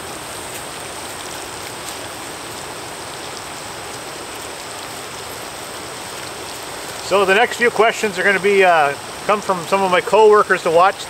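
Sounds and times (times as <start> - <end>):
mushrooms sizzling in a frying pan: 0.0 - 11.0.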